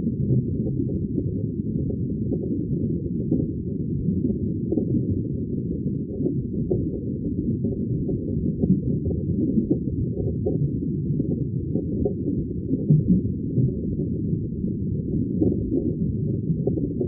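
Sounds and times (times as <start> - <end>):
muffled underwater bubbling: 0.0 - 17.0.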